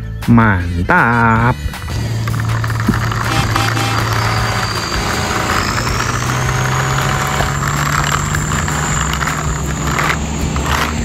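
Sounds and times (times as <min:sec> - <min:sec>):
low engine-like hum: 0:01.7 - 0:11.0
toy wheels rolling on asphalt: 0:01.8 - 0:11.0.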